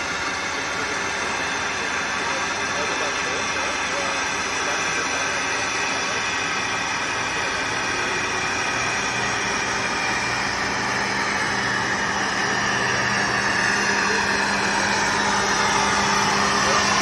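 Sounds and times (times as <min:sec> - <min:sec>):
diesel railcar engine humming: 0:00.0 - 0:17.0.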